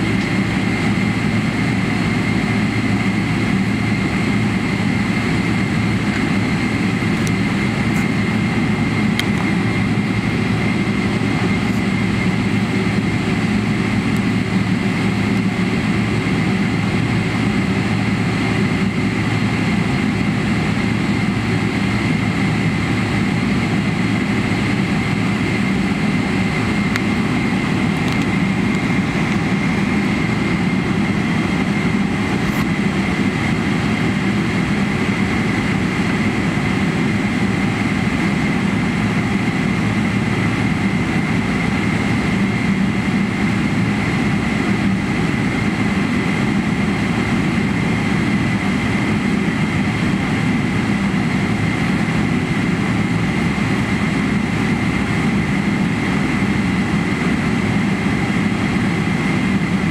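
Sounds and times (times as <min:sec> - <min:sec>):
airplane cabin drone: 0:00.0 - 0:59.9.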